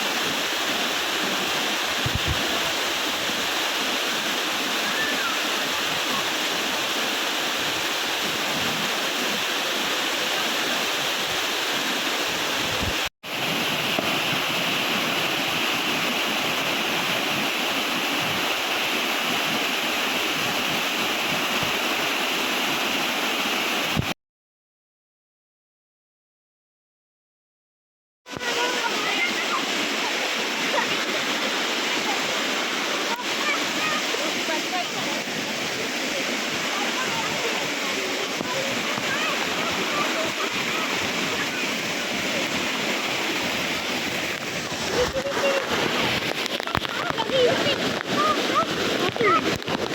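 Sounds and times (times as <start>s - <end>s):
waterfall rushing: 0.0s - 24.1s, 28.3s - 49.9s.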